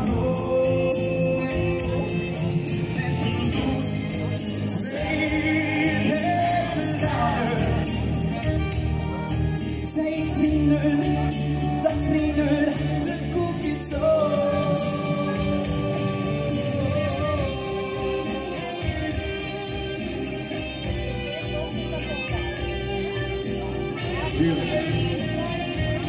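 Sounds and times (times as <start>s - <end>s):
man singing into a microphone: 0.0s - 20.5s, 24.0s - 26.0s
backing music with steady beat: 0.0s - 26.0s.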